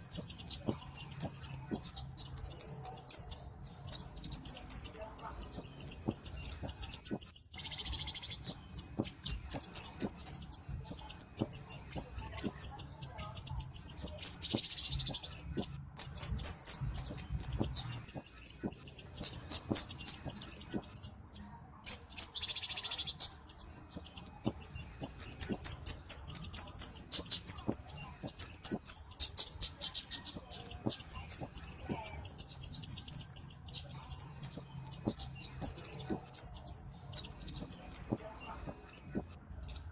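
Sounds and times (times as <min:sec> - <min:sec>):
bird song of rapid ticking chips: 0:00.0 - 0:39.9.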